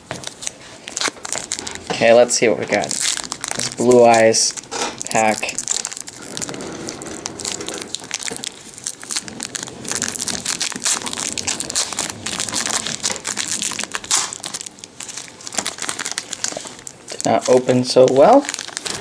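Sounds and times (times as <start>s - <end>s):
foil wrapper crinkling: 0.0s - 19.0s
foil wrapper tearing: 0.2s - 19.0s.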